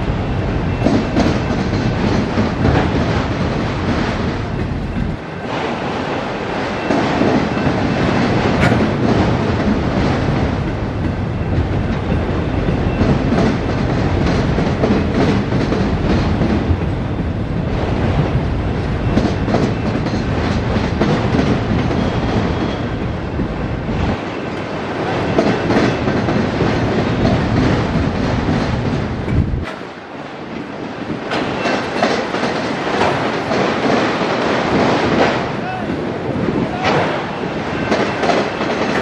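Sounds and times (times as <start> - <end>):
freight cars rolling past: 0.0 - 39.0
wheels clicking over rail joints: 0.7 - 17.4, 19.1 - 39.0.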